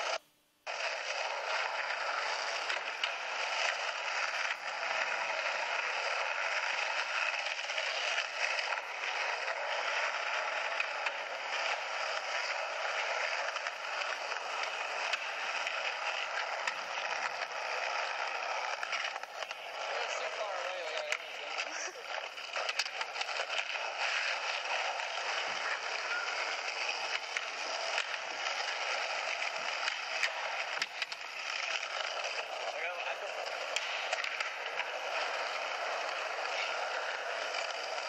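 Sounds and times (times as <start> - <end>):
skateboard wheels rolling on pavement: 0.0 - 38.0.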